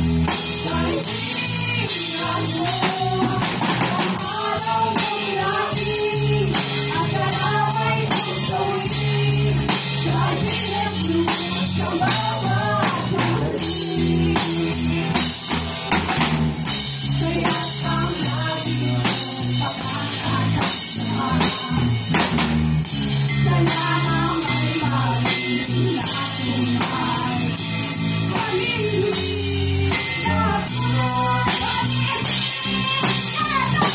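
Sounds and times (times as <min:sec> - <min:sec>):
drum kit with cymbals: 0:00.0 - 0:33.9
guitar: 0:00.0 - 0:33.9
female voices singing duet: 0:00.6 - 0:15.1, 0:17.2 - 0:22.0, 0:23.4 - 0:27.6, 0:28.3 - 0:33.9.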